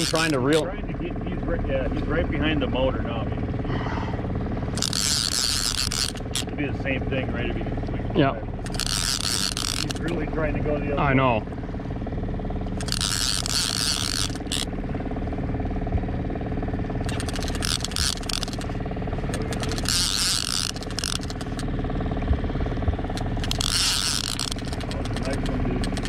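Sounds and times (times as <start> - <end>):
boat motor running: 0.0 - 26.0
fishing reel rasping whir: 0.0 - 26.0.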